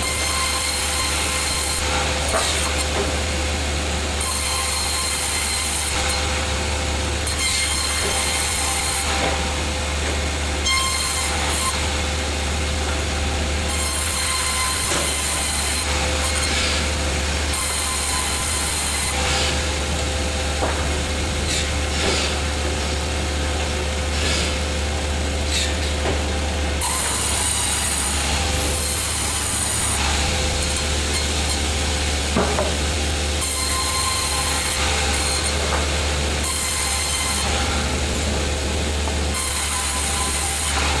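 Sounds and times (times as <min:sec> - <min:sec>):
saw cutting wood: 0:00.0 - 0:23.0, 0:24.1 - 0:24.6, 0:25.3 - 0:26.0, 0:26.7 - 0:41.0.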